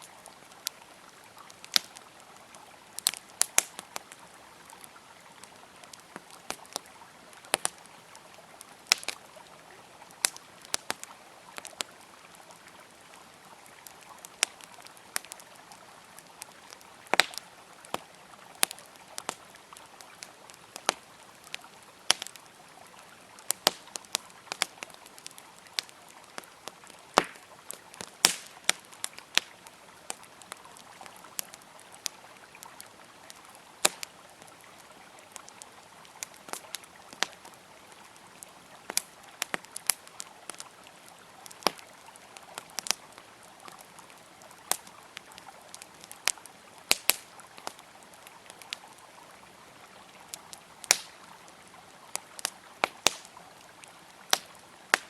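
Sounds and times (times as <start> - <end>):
campfire crackling and popping: 0.0 - 55.0
river flowing: 0.0 - 55.0.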